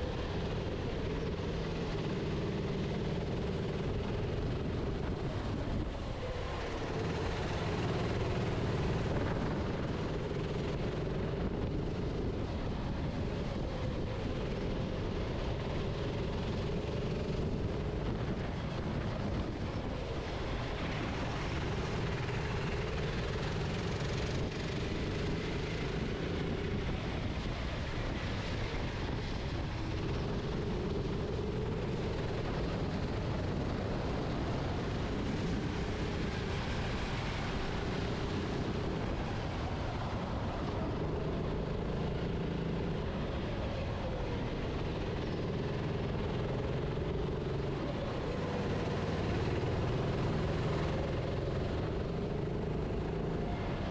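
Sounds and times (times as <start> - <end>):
kart engine running at speed: 0.0 - 53.9
wind and tyre noise: 0.0 - 53.9.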